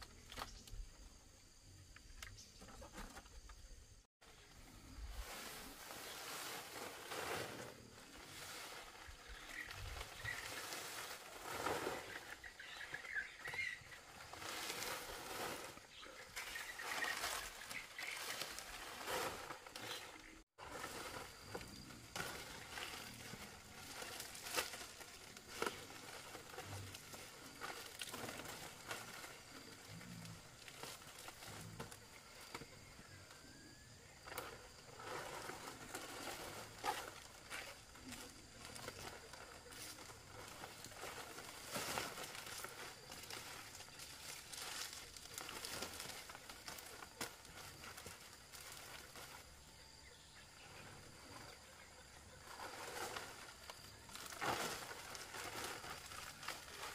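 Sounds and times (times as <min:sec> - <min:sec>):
palm leaves rustling: 0:04.2 - 0:56.9.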